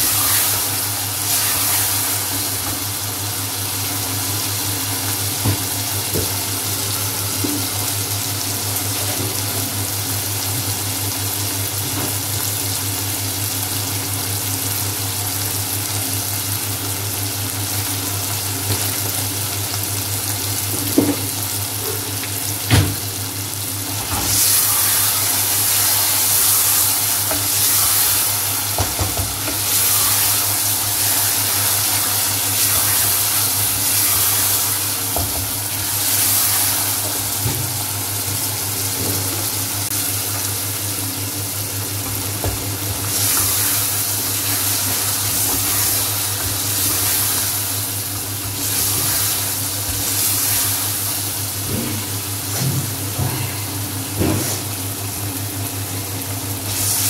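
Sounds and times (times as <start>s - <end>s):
meat sizzling in oil: 0.0s - 57.0s.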